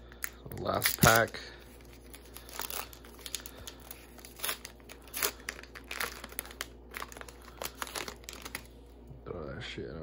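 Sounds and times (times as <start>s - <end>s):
foil wrapper crinkling and tearing: 0.2s - 8.8s.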